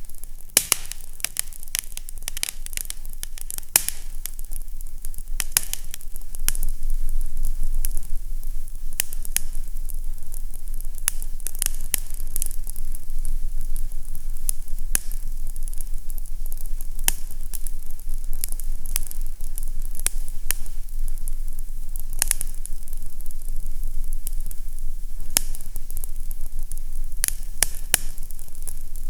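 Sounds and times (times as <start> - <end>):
fire crackling pops: 0.0 - 29.0
low hum: 0.0 - 29.0
steady fire hiss: 0.0 - 29.0.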